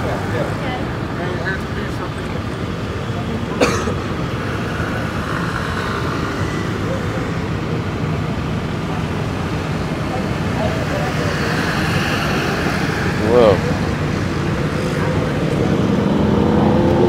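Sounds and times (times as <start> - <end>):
passing vehicles rumbling: 0.0 - 17.0.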